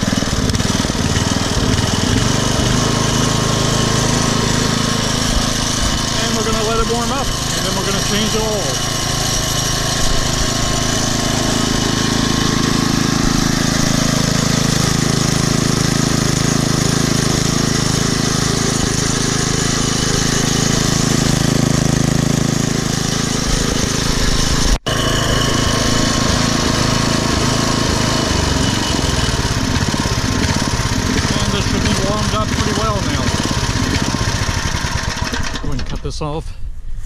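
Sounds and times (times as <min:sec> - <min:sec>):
small engine running steadily: 0:00.0 - 0:37.0.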